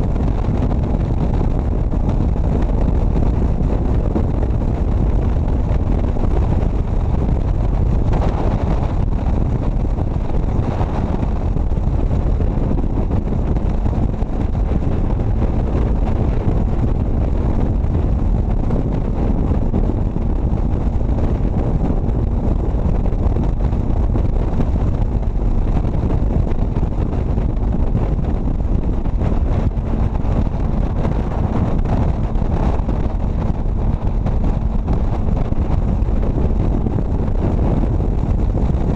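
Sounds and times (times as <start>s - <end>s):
road noise: 0.0s - 38.9s
wind on microphone: 0.0s - 38.9s.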